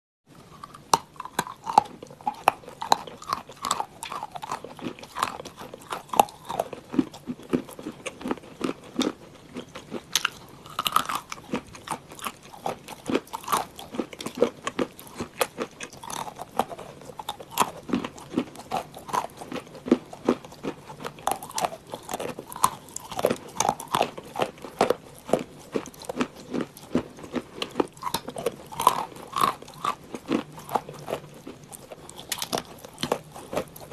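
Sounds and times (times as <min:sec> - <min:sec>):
clay crunching as chewed: 0:00.4 - 0:33.9.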